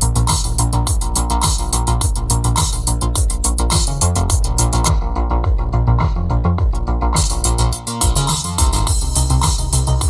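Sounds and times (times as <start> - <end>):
music with strong bass line: 0.0 - 10.0.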